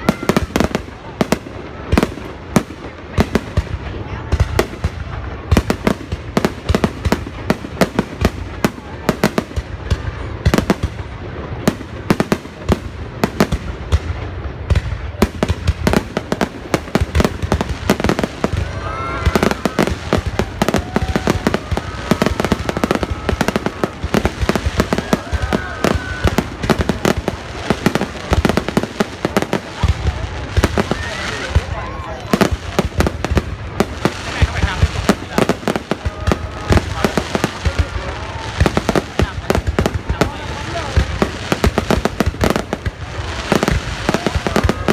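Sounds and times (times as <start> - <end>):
fireworks bangs and crackles: 0.0 - 44.9
gliding whistling fireworks: 0.0 - 44.9.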